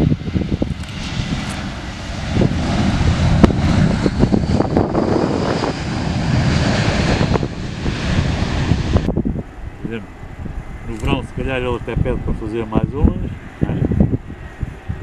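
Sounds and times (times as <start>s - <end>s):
jet airliner engines: 0.0s - 15.0s
wind rumbling on microphone: 0.0s - 15.0s.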